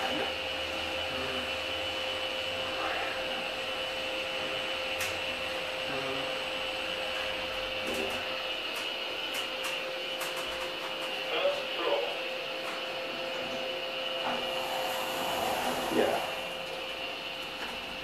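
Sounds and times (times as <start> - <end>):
elevator car whirring hum: 0.0 - 18.0.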